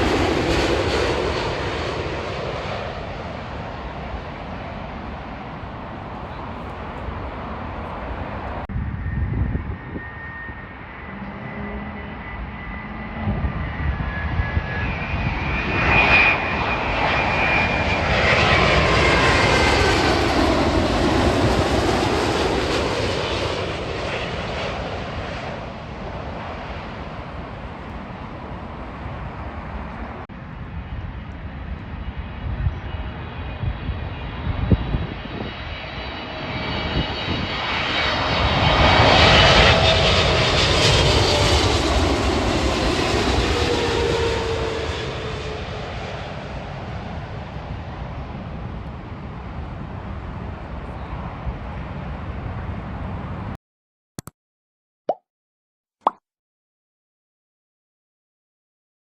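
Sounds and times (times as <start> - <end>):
jet airliner passing overhead: 0.0 - 53.6
second aircraft engines: 0.0 - 53.6.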